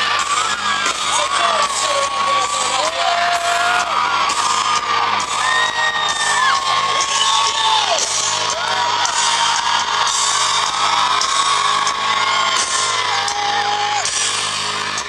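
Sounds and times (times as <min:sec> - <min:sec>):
audience whooping: 0:00.0 - 0:15.0.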